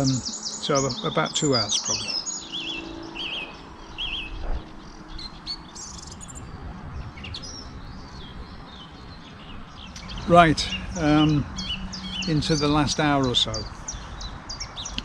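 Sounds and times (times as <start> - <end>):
birds singing and chirping: 0.0 - 15.0.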